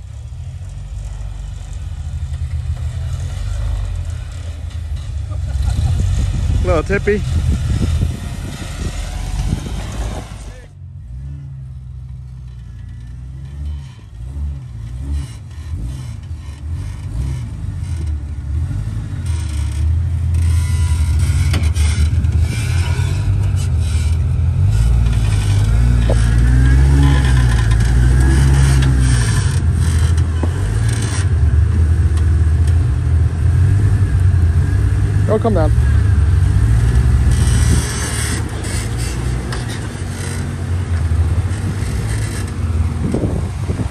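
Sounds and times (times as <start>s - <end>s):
tyres and chassis scraping rock: 0.0s - 43.9s
engine revving under load: 0.9s - 43.9s.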